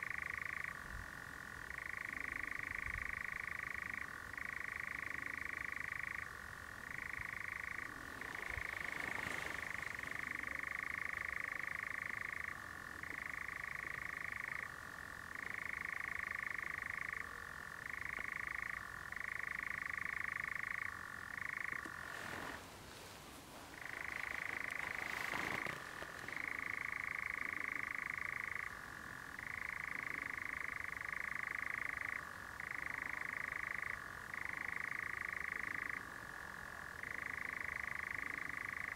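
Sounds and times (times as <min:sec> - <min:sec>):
nightjar churring trill: 0:00.0 - 0:22.6, 0:23.8 - 0:36.1.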